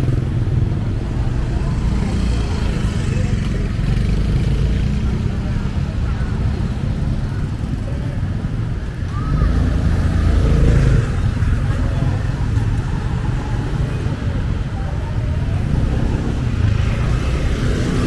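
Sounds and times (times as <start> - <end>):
people's voices: 0.0 - 18.0
vehicle engines rumbling: 0.0 - 18.0.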